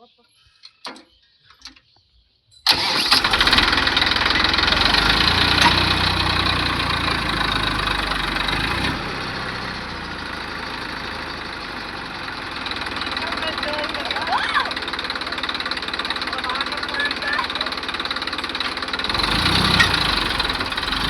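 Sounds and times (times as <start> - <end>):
tractor diesel engine running: 2.7 - 21.0.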